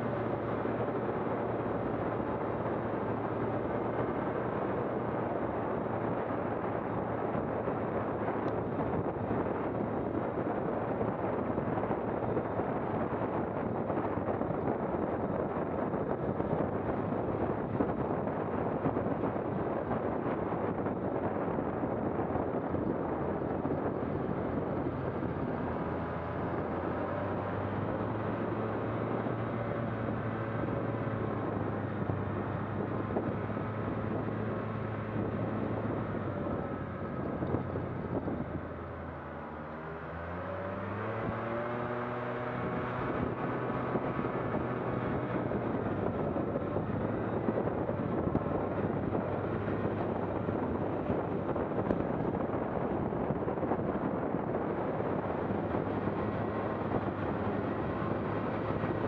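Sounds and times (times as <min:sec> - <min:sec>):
vehicle engine running: 0:00.0 - 0:59.0
wind noise: 0:00.0 - 0:59.0.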